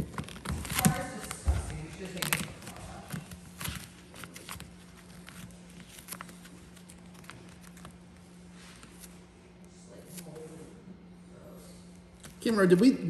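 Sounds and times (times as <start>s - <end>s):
rustling: 0.0s - 10.6s
steady low hum: 0.0s - 13.0s.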